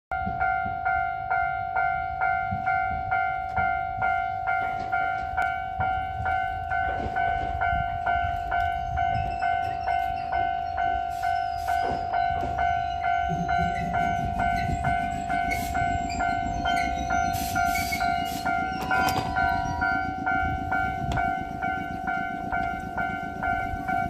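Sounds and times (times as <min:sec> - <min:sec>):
electric train rumble: 0:00.1 - 0:24.0
level crossing warning bell: 0:00.1 - 0:24.0.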